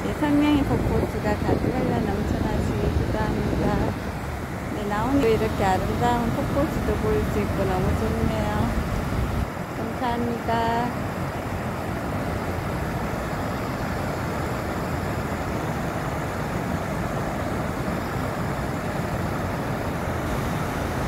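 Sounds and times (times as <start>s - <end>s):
water rushing over a weir: 0.0s - 21.0s.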